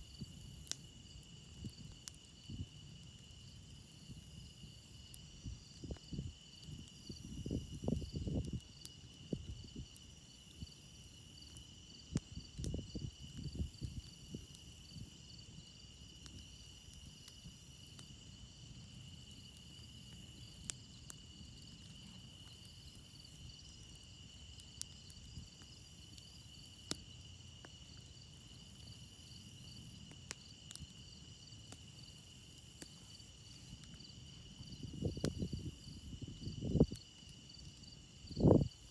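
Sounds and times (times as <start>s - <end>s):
crickets chirping: 0.0s - 38.9s
campfire crackling and popping: 0.1s - 38.9s.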